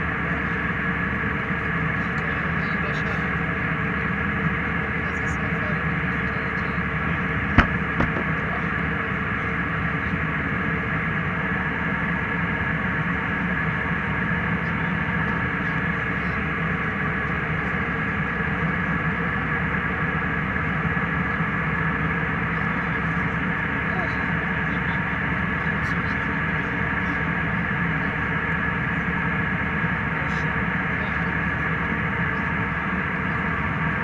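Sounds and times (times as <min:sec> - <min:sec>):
airliner cabin engine hum: 0:00.0 - 0:34.0.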